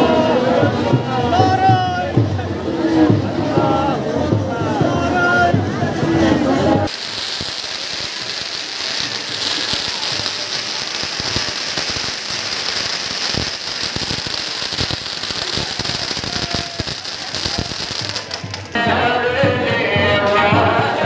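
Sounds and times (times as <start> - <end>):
fireworks hissing: 0.0 - 18.9
fireworks crackling: 0.0 - 21.0.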